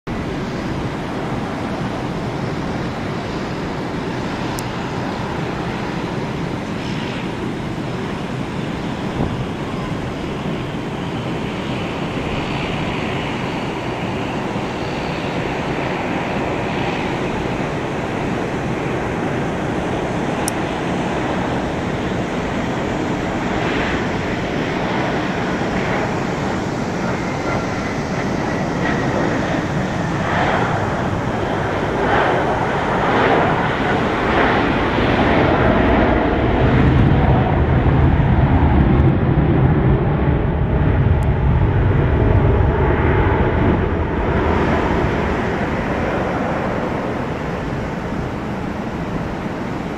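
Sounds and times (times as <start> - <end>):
distant jet engines rushing: 0.1 - 49.9.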